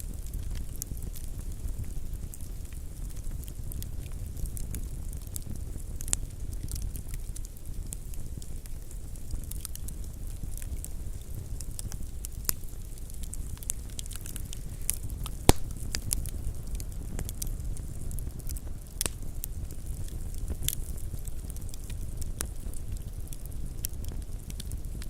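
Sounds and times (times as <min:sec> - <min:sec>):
campfire crackling: 0:00.0 - 0:25.0
fire popping: 0:00.0 - 0:25.0.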